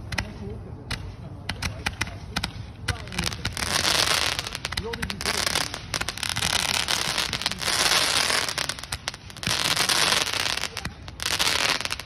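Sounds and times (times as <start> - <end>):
firework crackling hiss: 0.0 - 12.0.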